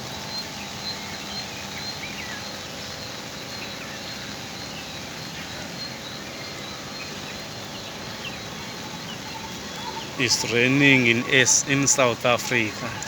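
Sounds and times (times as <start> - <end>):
bird chirps: 0.0 - 13.0
heavy rain hissing: 0.0 - 13.0.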